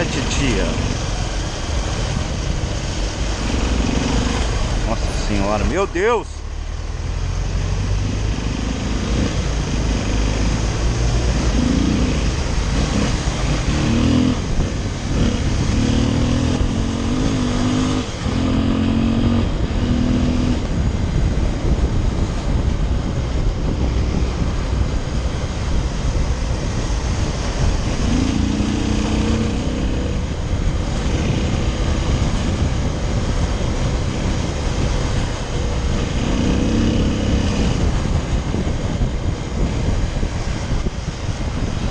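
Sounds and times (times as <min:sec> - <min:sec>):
wind rushing on microphone: 0:00.0 - 0:41.9.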